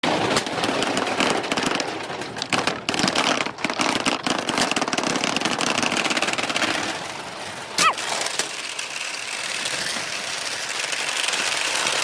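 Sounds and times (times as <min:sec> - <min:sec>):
balls clattering down wooden track: 0:00.0 - 0:12.0.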